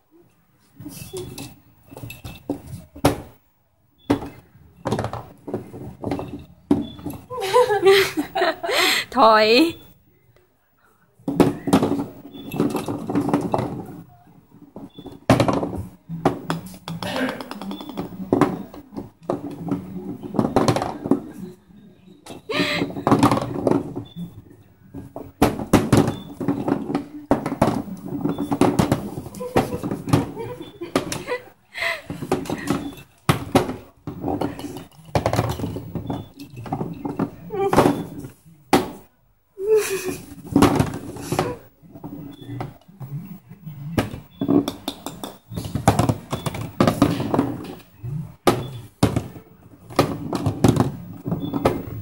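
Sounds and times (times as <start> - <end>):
golf balls knocking on plastic: 1.4 - 3.4, 4.0 - 8.8, 11.2 - 21.6, 22.2 - 39.1, 40.2 - 52.0.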